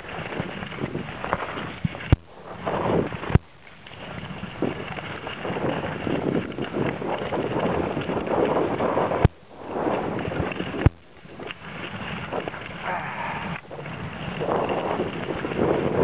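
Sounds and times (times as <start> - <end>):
skis scraping over snow: 0.0 - 16.0
wind rushing over microphone: 0.0 - 16.0.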